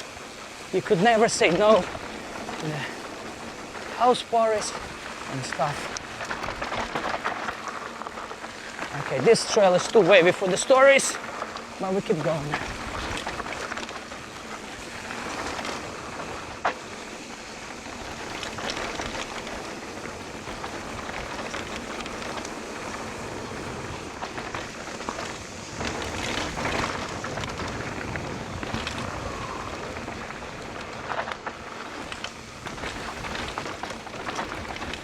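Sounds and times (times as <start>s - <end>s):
bike tyre and wind rush: 0.0s - 35.0s.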